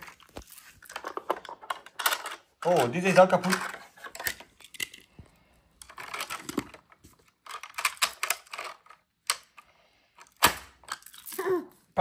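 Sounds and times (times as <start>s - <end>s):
plastic toys clattering: 0.0s - 11.6s.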